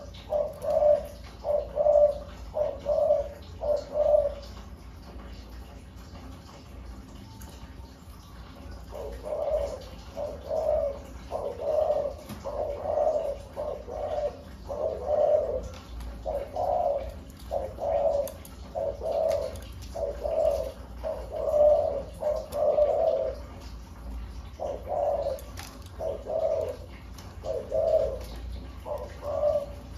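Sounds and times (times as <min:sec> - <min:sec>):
dove cooing: 0:00.0 - 0:05.8, 0:08.0 - 0:29.9.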